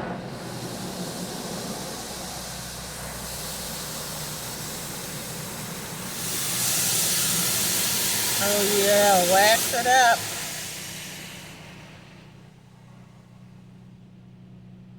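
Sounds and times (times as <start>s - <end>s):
car wash spray hissing: 0.0s - 12.6s.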